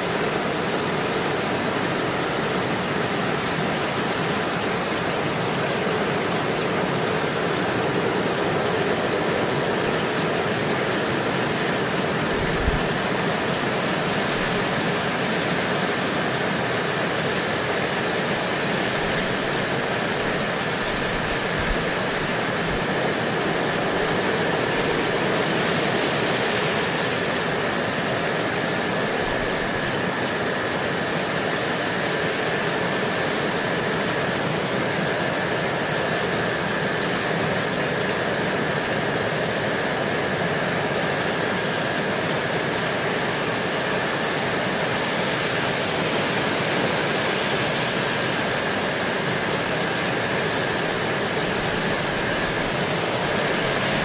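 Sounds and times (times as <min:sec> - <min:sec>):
steady rain on leaves: 0:00.0 - 0:54.0.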